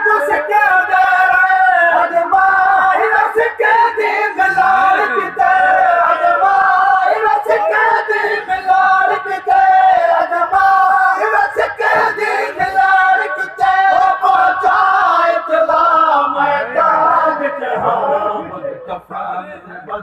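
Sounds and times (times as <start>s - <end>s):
crowd of men singing lament: 0.0s - 20.0s
lead reciter singing: 0.0s - 20.0s.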